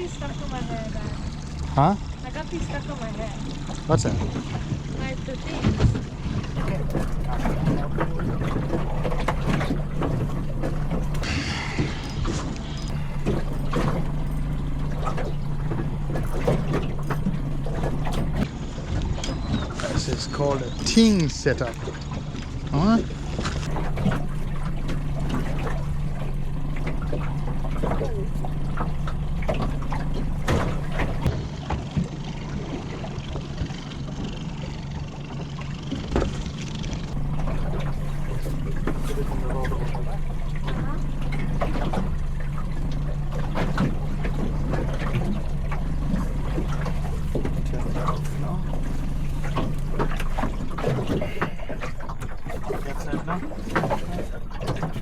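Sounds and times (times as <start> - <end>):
boat low hum: 0.0 - 55.0.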